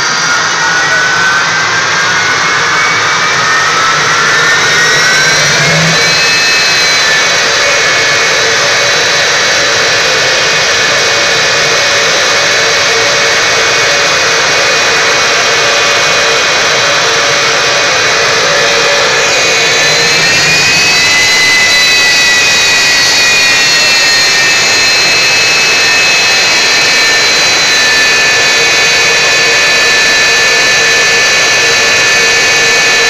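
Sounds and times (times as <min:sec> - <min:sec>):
jet engine turbine roaring: 0:00.0 - 0:33.0.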